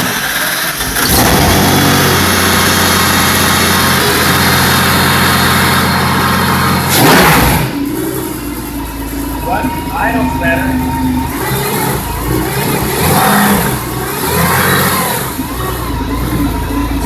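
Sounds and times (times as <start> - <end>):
car engine starting and idling: 0.0 - 17.0
engine revving: 0.0 - 17.0.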